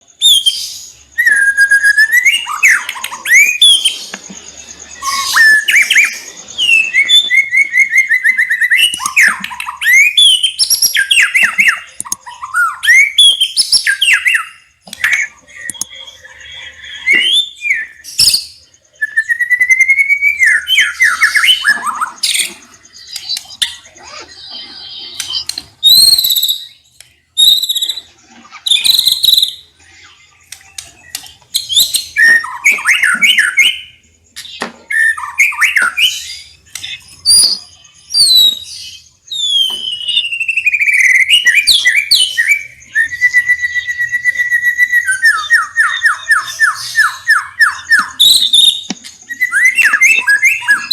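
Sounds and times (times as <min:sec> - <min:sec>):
songbird singing whistles and trills: 0:00.0 - 0:50.9.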